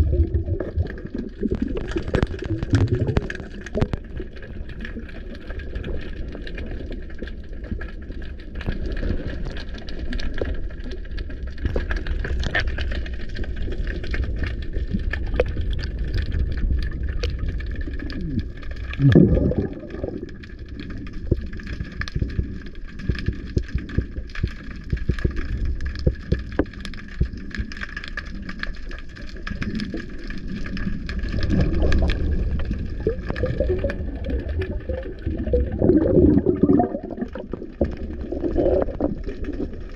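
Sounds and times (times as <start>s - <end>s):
bubbles gurgling: 0.0s - 39.9s
small underwater clicks and crackles: 0.0s - 39.9s
underwater rush of water: 0.0s - 39.9s.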